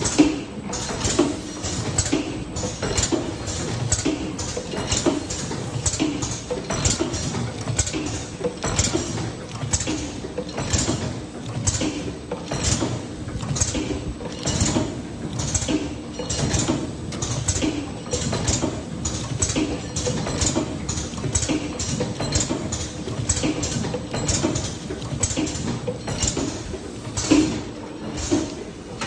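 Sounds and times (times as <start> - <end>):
machine running noise: 0.0 - 29.0
packaging machine clacking: 0.7 - 29.0.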